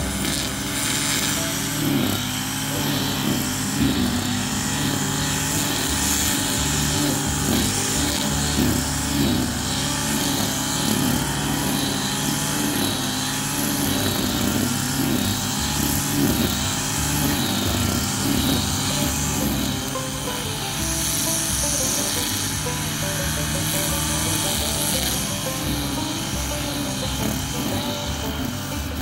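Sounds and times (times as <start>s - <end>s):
brush cutter engine running: 0.0s - 29.0s
string head cutting grass: 0.0s - 29.0s.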